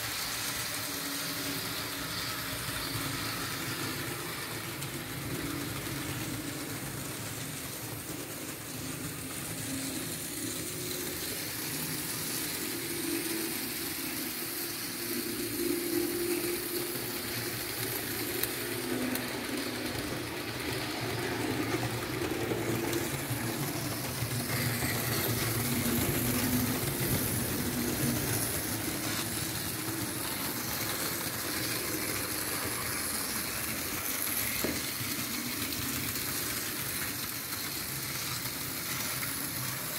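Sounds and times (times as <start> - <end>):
model train motor whirring: 0.0 - 39.9
wheels rumbling on track: 0.8 - 39.9.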